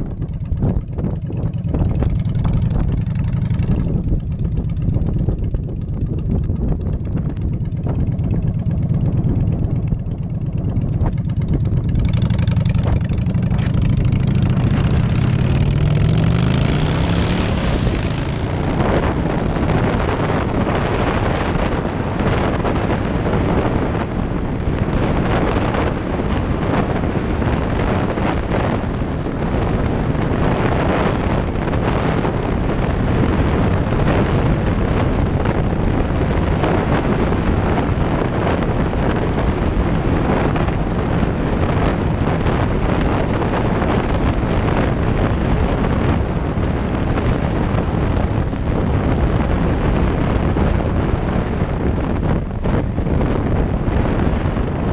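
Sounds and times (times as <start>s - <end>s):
motorcycle engine: 0.0s - 54.9s
wind noise on microphone: 0.0s - 54.9s.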